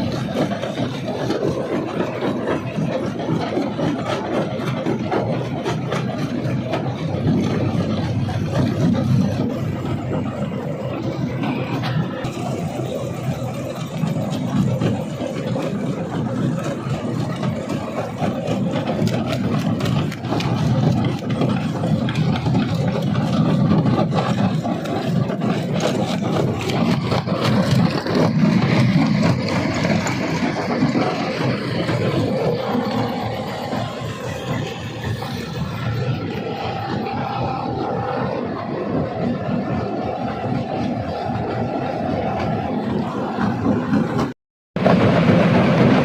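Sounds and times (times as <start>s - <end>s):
deep grinding rumble: 0.0s - 46.0s
heavy engine running: 0.0s - 46.0s.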